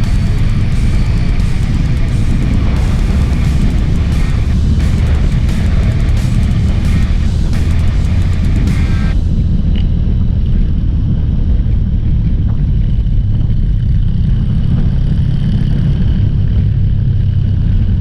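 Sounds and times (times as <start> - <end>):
motorcycle engine rumbling: 0.0 - 15.3.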